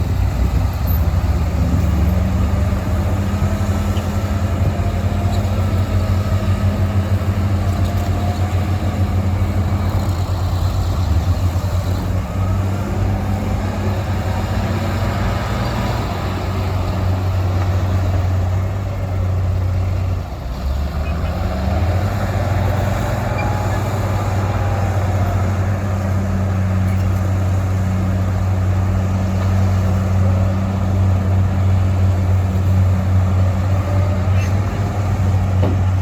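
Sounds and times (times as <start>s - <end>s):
heavy diesel engines droning: 0.0s - 36.0s.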